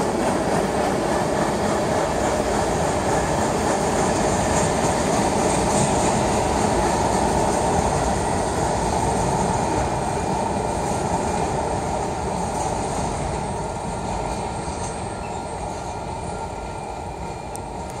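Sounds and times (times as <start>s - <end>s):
freight train wheels on rails: 0.0s - 18.0s.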